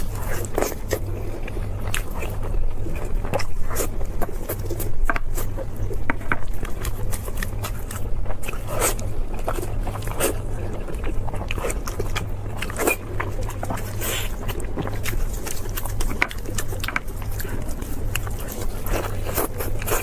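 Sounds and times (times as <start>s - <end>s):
crunchy bites and chewing: 0.0s - 20.0s
steady low hum: 0.0s - 20.0s.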